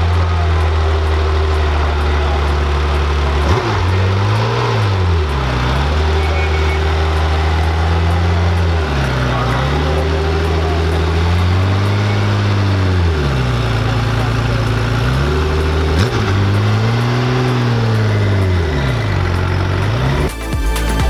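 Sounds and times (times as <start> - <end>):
car engine running: 0.0 - 20.4.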